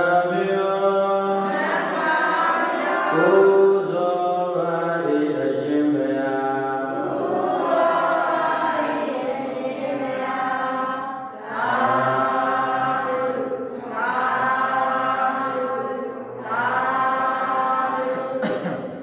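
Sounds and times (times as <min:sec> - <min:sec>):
voices chanting: 0:00.0 - 0:18.7.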